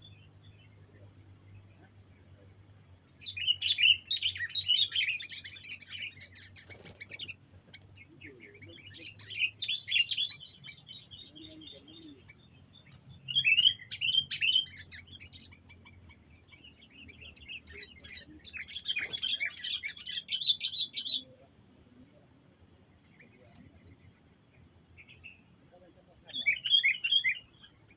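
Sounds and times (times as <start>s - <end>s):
songbirds chirping and chattering: 0.0s - 27.9s.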